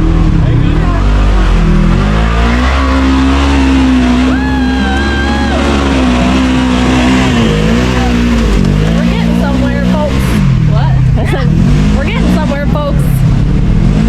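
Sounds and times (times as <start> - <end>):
utility vehicle engine in mud: 0.0 - 14.0.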